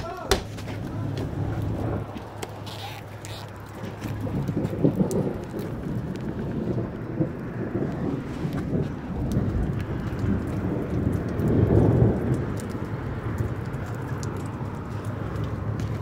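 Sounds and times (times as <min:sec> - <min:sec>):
raindrops ticking: 0:00.0 - 0:16.0
thunder rumbling: 0:00.8 - 0:16.0.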